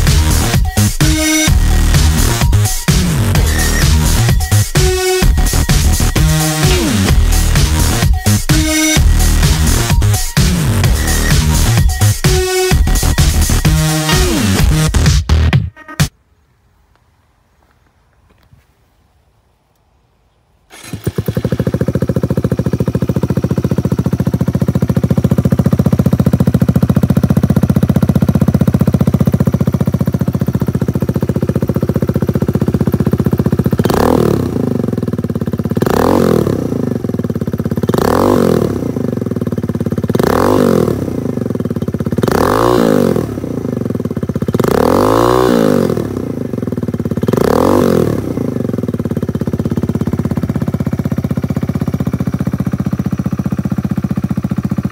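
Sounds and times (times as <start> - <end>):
motorcycle engine idling and revving: 0.0 - 16.2, 20.7 - 54.9.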